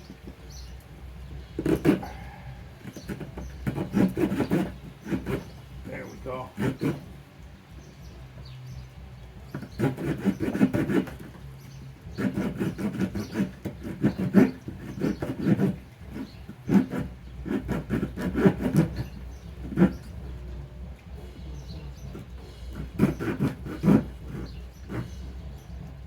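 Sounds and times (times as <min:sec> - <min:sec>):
saw cutting hardwood: 0:00.0 - 0:07.3, 0:09.4 - 0:20.6, 0:21.2 - 0:25.9.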